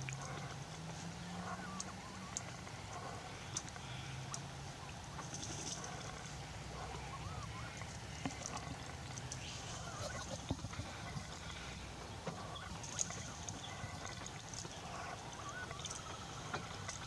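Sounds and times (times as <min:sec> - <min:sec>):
birds calling: 0:01.2 - 0:17.0.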